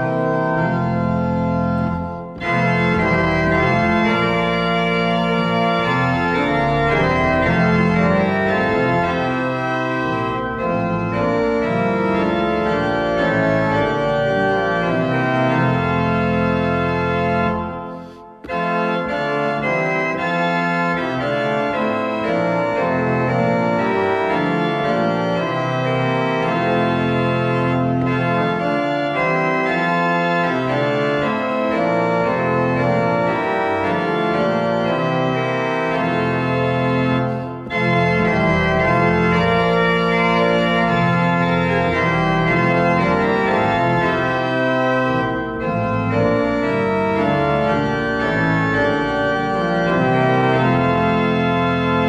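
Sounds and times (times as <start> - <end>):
organ playing slow chords: 0.0 - 52.0.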